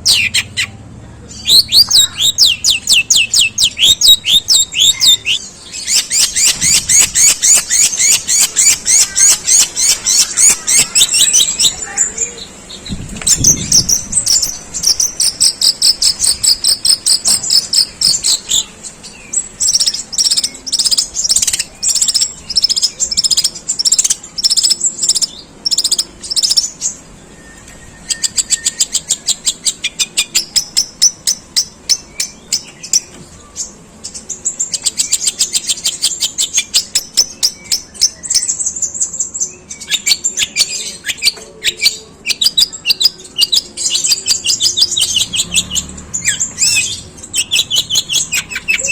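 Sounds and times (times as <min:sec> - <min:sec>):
bird singing harsh chattering notes: 0:00.0 - 0:48.9.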